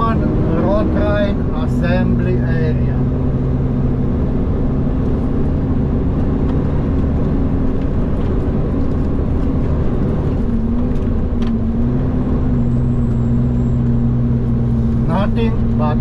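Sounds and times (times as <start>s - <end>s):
diesel engine low hum: 0.0s - 16.0s.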